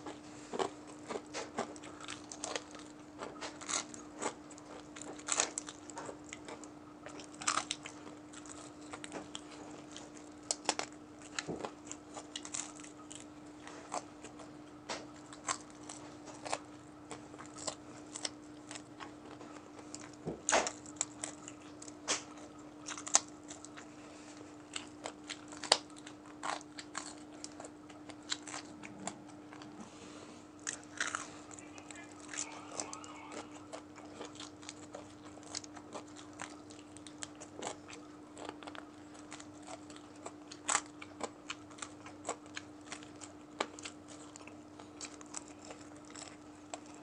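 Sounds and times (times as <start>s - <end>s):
crunchy chewing of fried chicken: 0.0s - 47.0s
faint steady hum: 0.0s - 47.0s.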